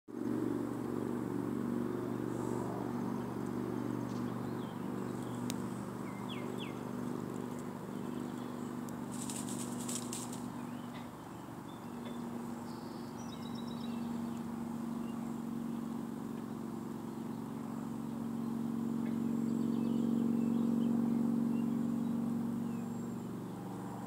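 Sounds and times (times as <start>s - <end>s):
low mechanical hum: 0.1s - 24.0s.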